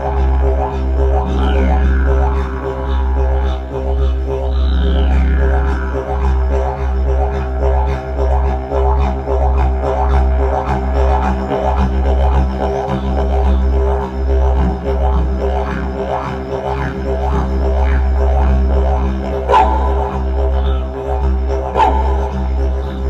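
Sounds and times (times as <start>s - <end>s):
didgeridoo drone: 0.0s - 23.0s.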